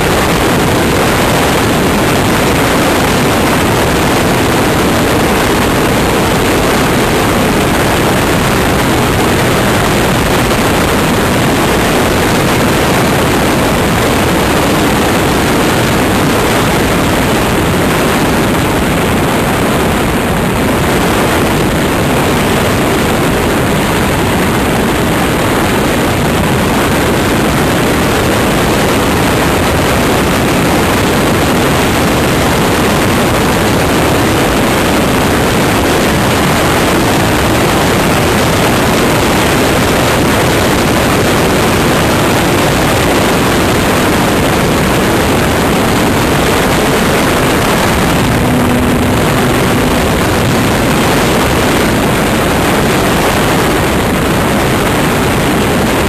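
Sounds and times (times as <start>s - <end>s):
wind noise on microphone: 0.0s - 56.0s.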